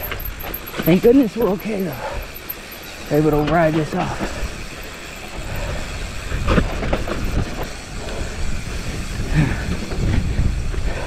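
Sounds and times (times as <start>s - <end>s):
bike knocking and rattling: 0.0s - 11.0s
bike tyres rumbling on dirt: 0.0s - 11.0s.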